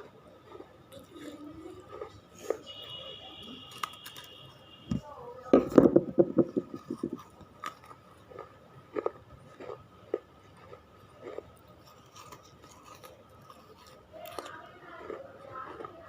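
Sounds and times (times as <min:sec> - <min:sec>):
crunchy chewing: 0:00.0 - 0:05.0, 0:06.7 - 0:16.0
faint high hum: 0:00.0 - 0:16.0.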